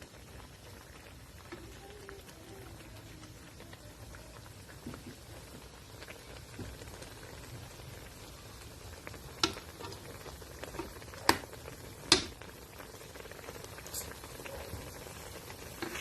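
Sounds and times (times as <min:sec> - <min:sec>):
liquid bubbling in a pan: 0:00.0 - 0:16.0.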